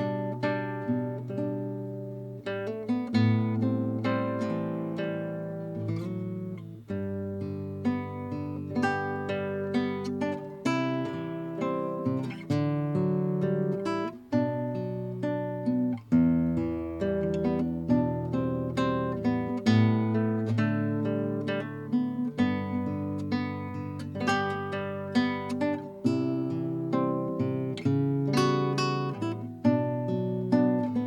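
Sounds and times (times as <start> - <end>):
fingerstyle classical guitar: 0.0 - 31.0.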